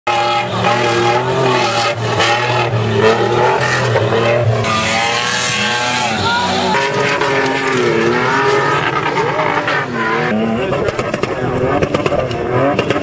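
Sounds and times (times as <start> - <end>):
car engine revving hard: 0.1 - 13.0.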